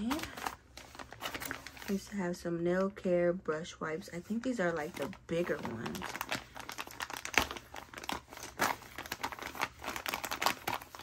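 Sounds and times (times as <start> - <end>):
plastic packaging crinkling: 0.0 - 2.3, 4.2 - 11.0.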